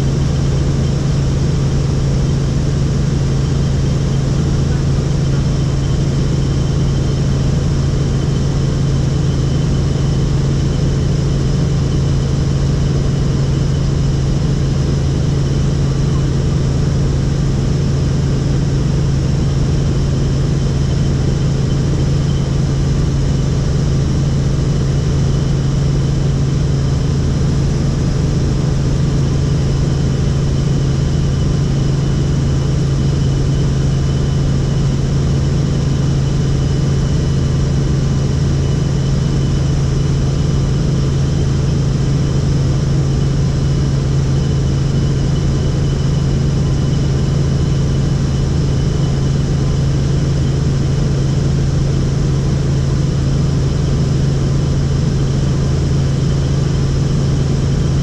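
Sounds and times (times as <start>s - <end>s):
helicopter drone: 0.0s - 58.0s.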